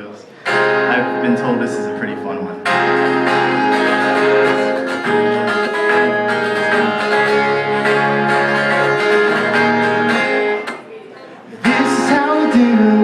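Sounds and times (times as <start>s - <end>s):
acoustic guitar strumming: 0.4s - 10.8s, 11.6s - 13.0s.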